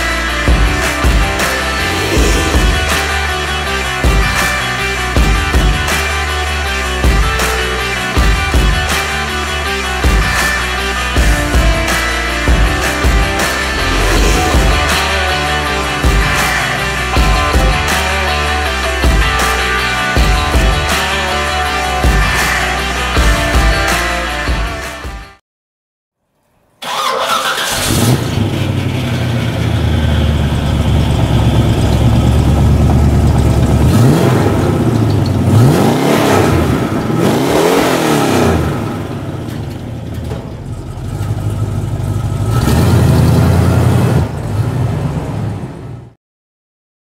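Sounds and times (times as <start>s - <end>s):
car driving off: 0.0s - 24.2s, 26.8s - 46.1s
car engine starting: 0.0s - 24.9s, 26.8s - 46.1s
loud engine running: 0.0s - 24.9s, 27.7s - 45.8s
engine revving: 0.0s - 25.1s, 26.8s - 46.0s.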